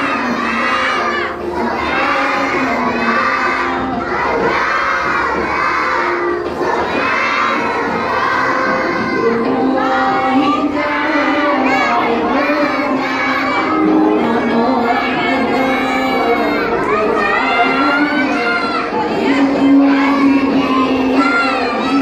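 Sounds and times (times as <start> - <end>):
children shouting a rhyme in unison: 0.0 - 22.0.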